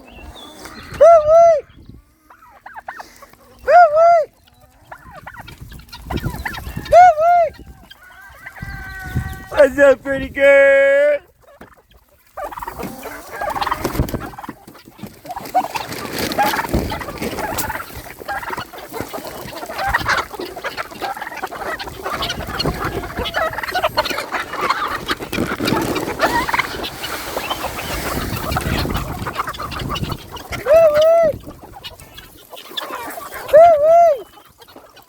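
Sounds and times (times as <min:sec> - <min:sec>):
chickens clucking: 0:00.0 - 0:35.0.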